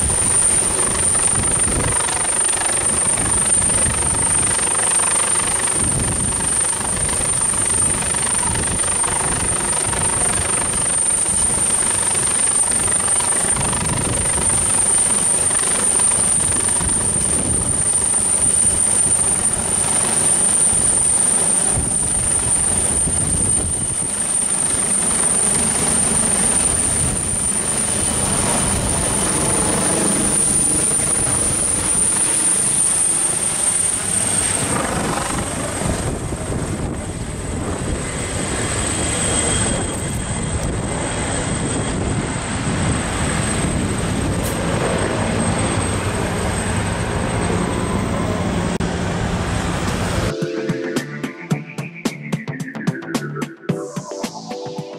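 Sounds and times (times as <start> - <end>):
helicopter rotor chop: 0.0 - 50.7
high-pitched turbine whine: 0.0 - 54.9.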